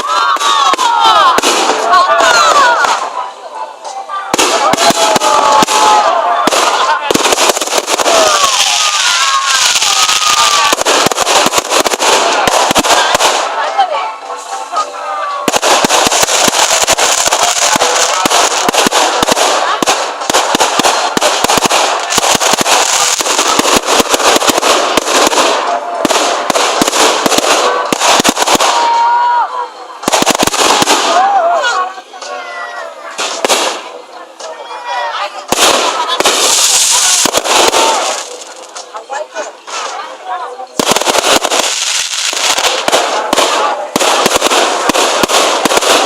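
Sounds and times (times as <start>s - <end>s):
fireworks crackling: 0.0s - 46.0s.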